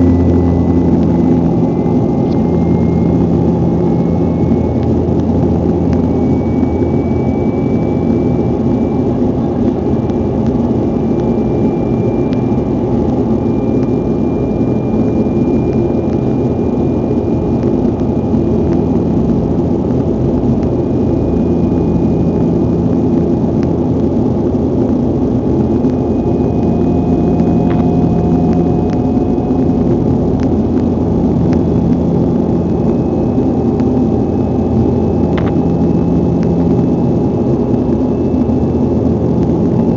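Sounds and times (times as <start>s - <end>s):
airliner engine drone in cabin: 0.0s - 39.9s
faint high whine: 0.0s - 39.9s.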